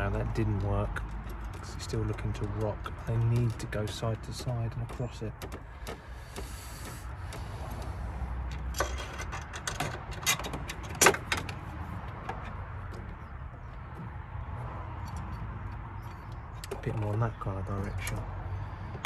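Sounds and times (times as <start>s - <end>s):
metal clamp clicks and knocks: 0.0s - 13.2s, 15.0s - 19.0s.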